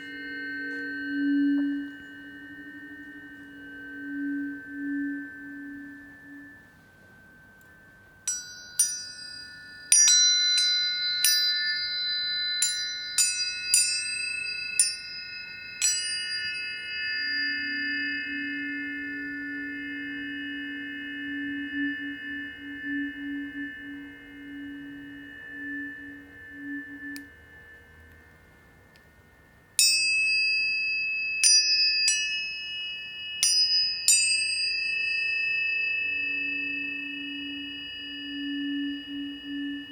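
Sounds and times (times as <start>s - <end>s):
low ringing tone: 0.0s - 39.9s
tuning forks ringing: 0.0s - 39.9s
tuning forks struck: 0.0s - 39.9s.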